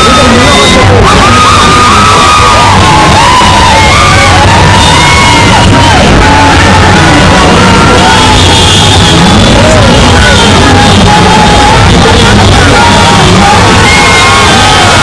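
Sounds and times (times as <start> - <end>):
crowd shouting and yelling: 0.0 - 15.0
loud music with singing: 0.0 - 15.0.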